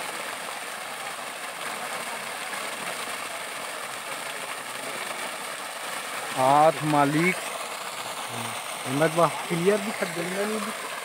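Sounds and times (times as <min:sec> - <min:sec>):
water gushing from a pipe: 0:00.0 - 0:11.0
water splashing onto mud: 0:00.0 - 0:11.0.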